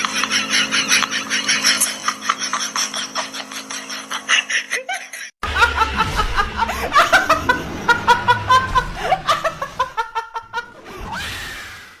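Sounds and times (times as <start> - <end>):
person laughing: 0.0 - 10.8.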